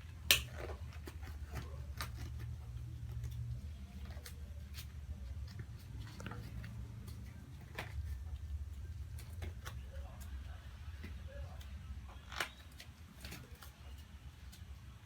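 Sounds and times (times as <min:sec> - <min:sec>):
small objects clicking and tapping: 0:00.0 - 0:14.7.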